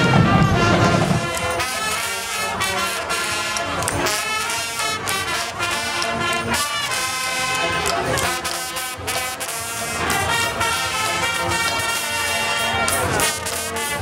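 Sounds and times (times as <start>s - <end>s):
drum strokes: 0.0s - 12.0s
brass horns playing: 0.0s - 14.0s.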